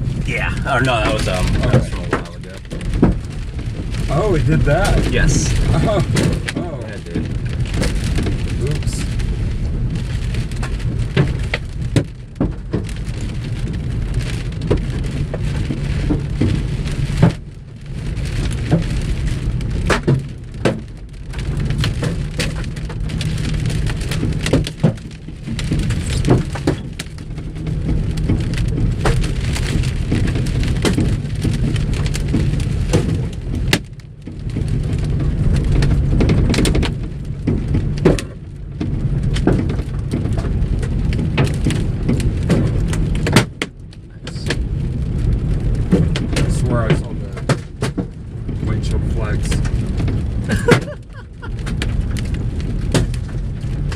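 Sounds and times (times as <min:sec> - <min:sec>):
hailstones pounding vehicle roof: 0:00.0 - 0:53.9.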